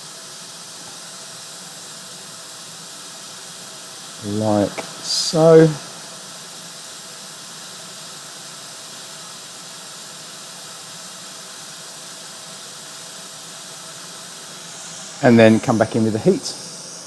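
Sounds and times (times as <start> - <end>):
hot air gun hissing: 0.0 - 17.0.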